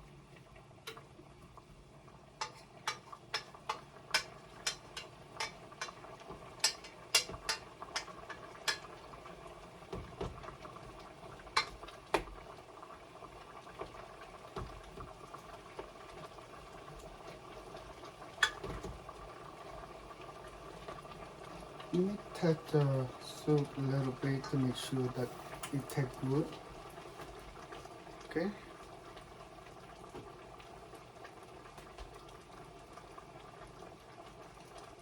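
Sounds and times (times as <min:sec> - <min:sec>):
soup simmering: 0:00.0 - 0:35.0.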